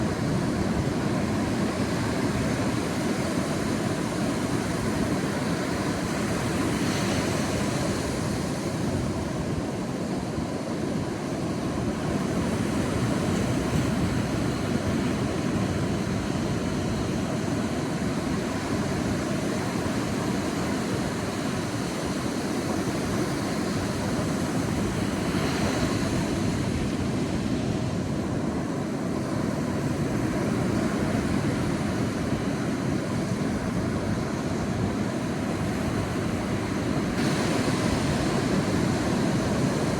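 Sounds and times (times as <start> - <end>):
waves rushing on beach: 0.0 - 39.9.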